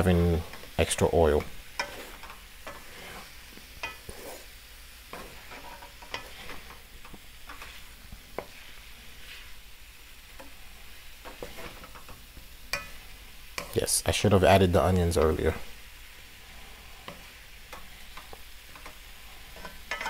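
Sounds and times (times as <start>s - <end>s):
wooden spatula scraping metal pan: 0.0s - 9.6s, 10.3s - 13.9s, 17.0s - 20.0s
vegetables sizzling: 0.0s - 20.0s.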